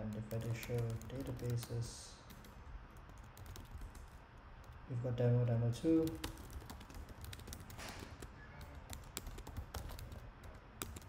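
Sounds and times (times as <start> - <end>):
keyboard typing clicks: 0.0 - 4.8, 6.0 - 11.0.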